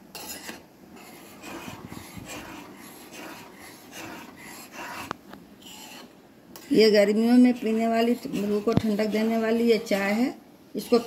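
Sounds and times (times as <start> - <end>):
metal spoon scraping saucepan: 0.1 - 10.0, 10.8 - 11.0.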